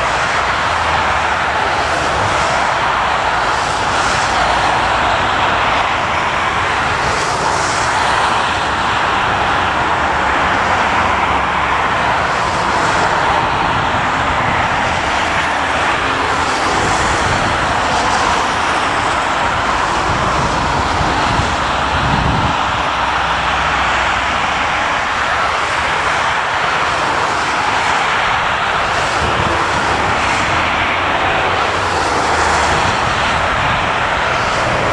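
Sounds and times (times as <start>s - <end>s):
jet engines rushing: 0.0s - 34.9s.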